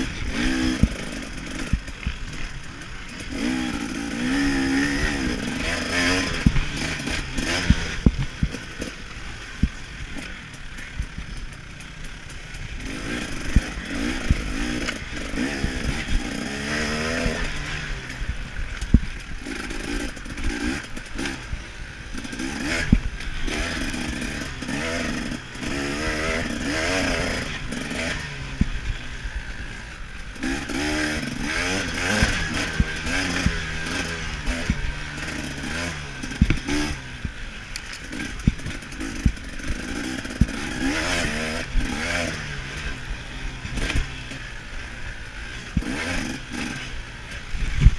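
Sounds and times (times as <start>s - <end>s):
knocks and clatter from bike: 0.0s - 29.1s, 29.7s - 44.6s, 45.5s - 47.9s
dirt bike engine revving: 0.0s - 47.9s.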